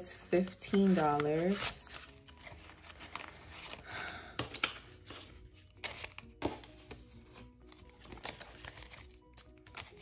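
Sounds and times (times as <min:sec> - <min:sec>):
banknotes rustling and snapping: 0:00.2 - 0:10.0.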